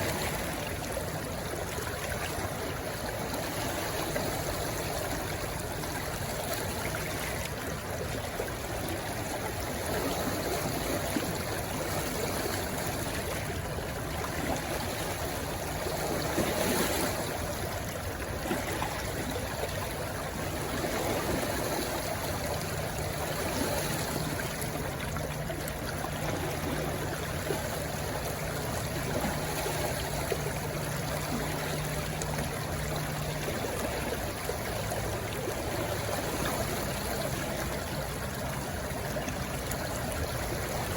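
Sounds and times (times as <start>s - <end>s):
stream rushing and gurgling: 0.0s - 40.9s.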